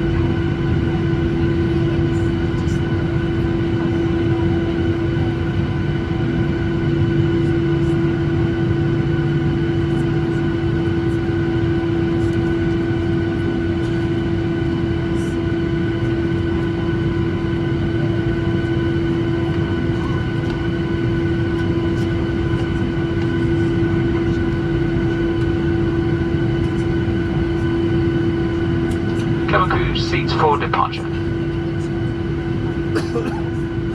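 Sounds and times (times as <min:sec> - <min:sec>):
airplane cabin engine hum: 0:00.0 - 0:33.9.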